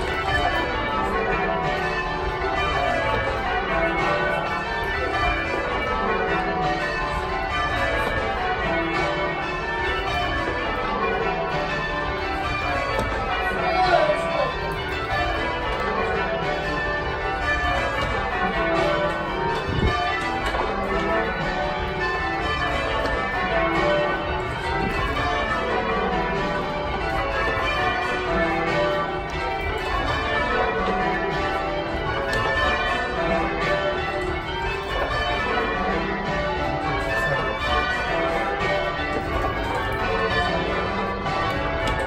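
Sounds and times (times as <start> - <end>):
church bells ringing: 0.0 - 42.0.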